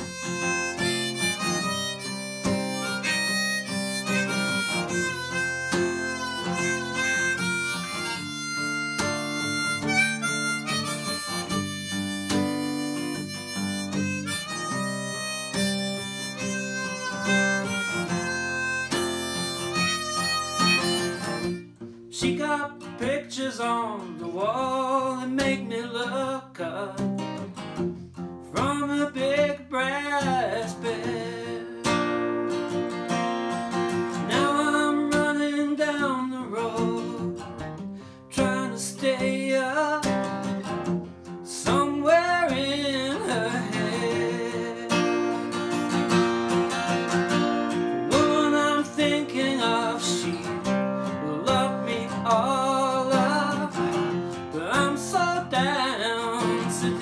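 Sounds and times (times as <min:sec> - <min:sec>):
harmonica melody: 0:00.0 - 0:22.2, 0:28.6 - 0:57.0
acoustic guitar strumming: 0:00.0 - 0:57.0.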